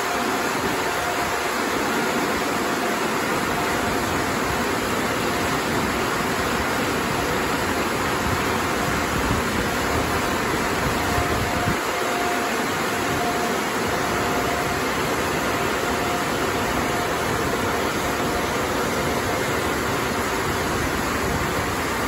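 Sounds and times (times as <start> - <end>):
car wash machine rushing: 0.0 - 22.0
faint machine whine: 0.0 - 22.0.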